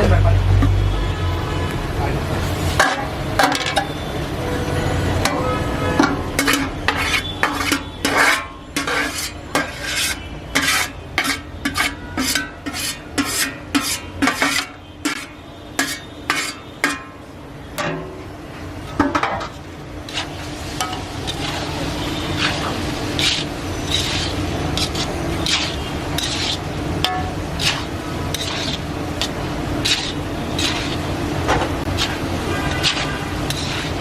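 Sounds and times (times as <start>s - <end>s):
metal spatula scraping a wok: 5.1s - 17.2s, 18.8s - 34.0s.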